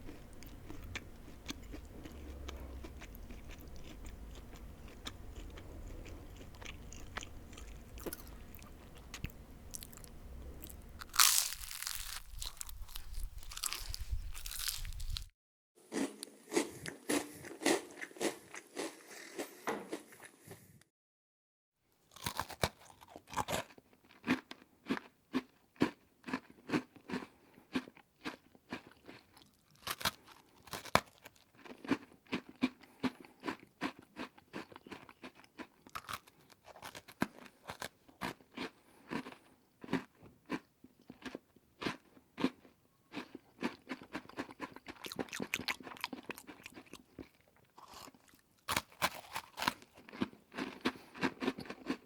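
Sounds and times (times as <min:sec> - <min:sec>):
crunchy food chewing: 0:00.0 - 0:15.3, 0:22.1 - 0:52.0.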